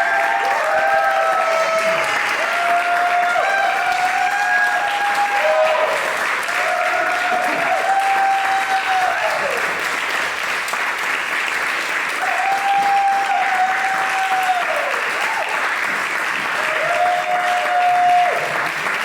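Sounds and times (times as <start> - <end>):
high held cheer: 0.0 - 10.2, 11.9 - 19.0
audience applauding: 0.0 - 19.0.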